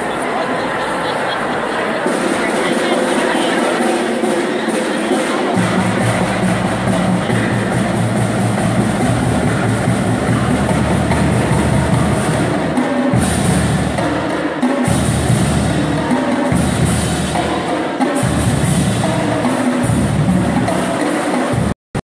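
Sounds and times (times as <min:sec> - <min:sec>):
marching band playing: 0:00.0 - 0:21.8
drums and bass drum: 0:02.0 - 0:21.8.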